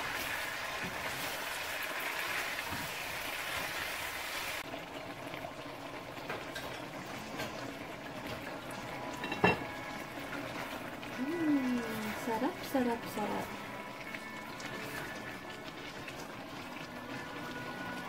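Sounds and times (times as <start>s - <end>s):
curry simmering and bubbling: 0.0s - 18.0s.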